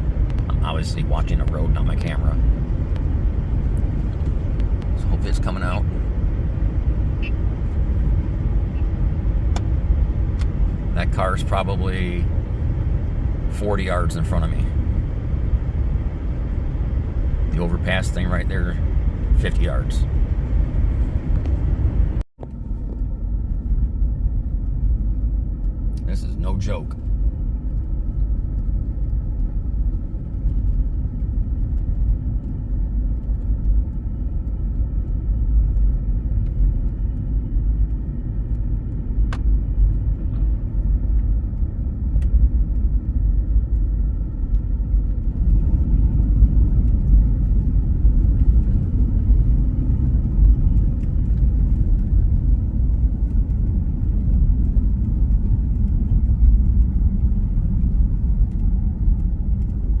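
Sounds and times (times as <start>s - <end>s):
car engine and tyres rumbling: 0.0s - 60.0s.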